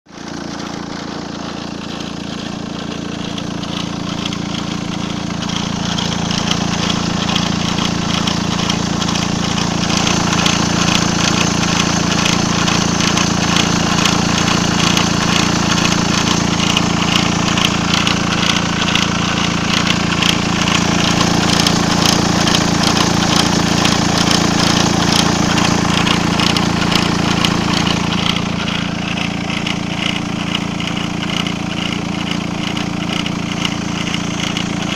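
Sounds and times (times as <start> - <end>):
diesel engine idling: 0.1 - 34.9
fast ticking: 1.4 - 34.9.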